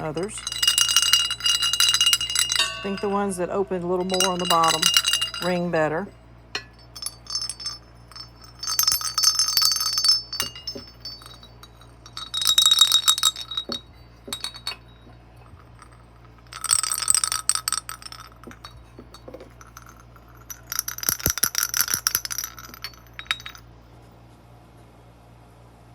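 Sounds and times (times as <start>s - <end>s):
clay jingle bells jingling: 0.0s - 23.6s
small clinks of bells: 0.0s - 23.6s.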